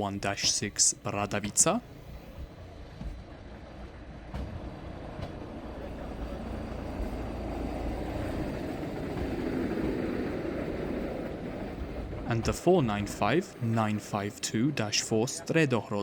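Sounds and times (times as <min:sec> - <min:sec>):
electric railcar rumbling on track: 0:00.0 - 0:16.0.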